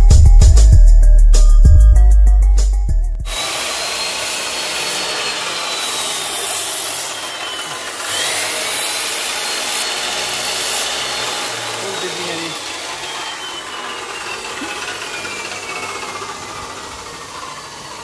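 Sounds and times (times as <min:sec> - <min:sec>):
chop saw cutting metal: 0:03.3 - 0:18.0.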